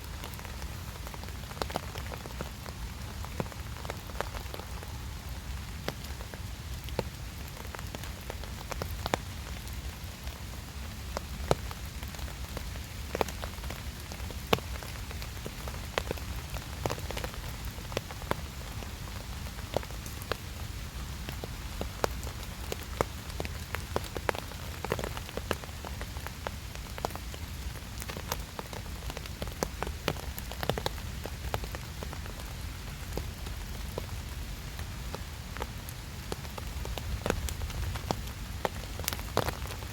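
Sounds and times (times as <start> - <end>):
raindrops ticking nearby: 0.0 - 39.9
steady rain falling: 0.0 - 39.9.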